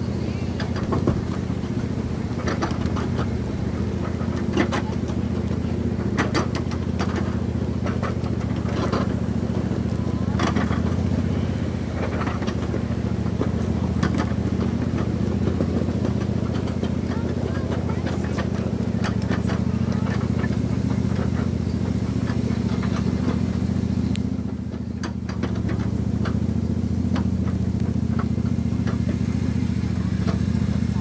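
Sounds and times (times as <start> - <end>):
miniature train drive hum: 0.0 - 31.0
train cars clicking and clacking: 0.0 - 31.0.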